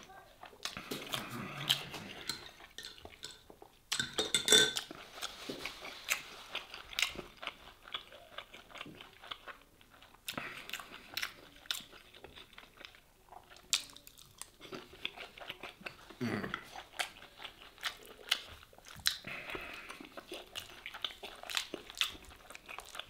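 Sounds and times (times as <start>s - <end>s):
person chewing crunchy food: 0.4s - 23.0s.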